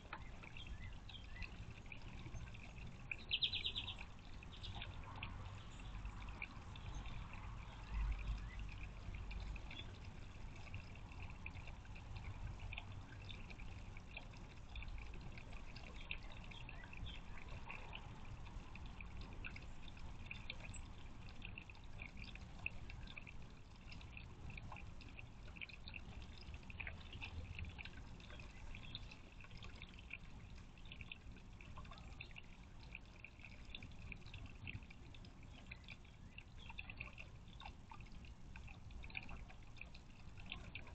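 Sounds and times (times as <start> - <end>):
water trickling into stone basin: 0.0 - 40.9.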